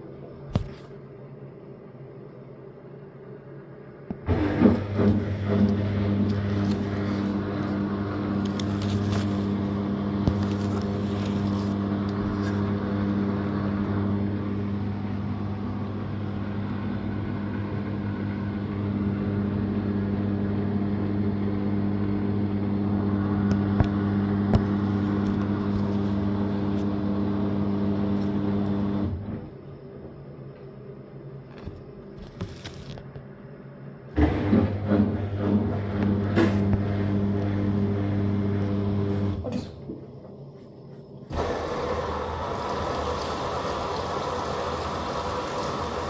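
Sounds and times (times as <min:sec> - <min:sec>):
washing machine humming: 0:03.2 - 0:31.7, 0:34.0 - 0:46.0.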